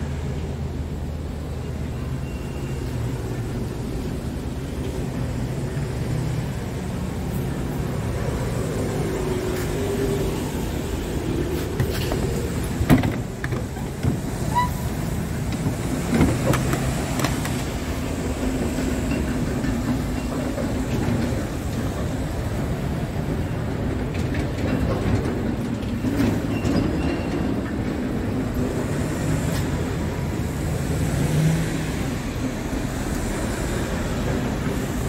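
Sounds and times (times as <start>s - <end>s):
truck engine drone: 0.0s - 35.0s.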